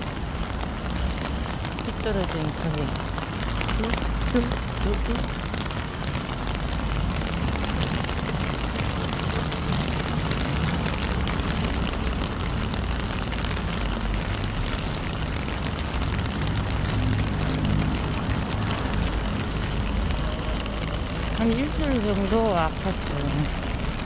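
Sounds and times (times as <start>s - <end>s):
rain falling steadily: 0.0s - 24.0s.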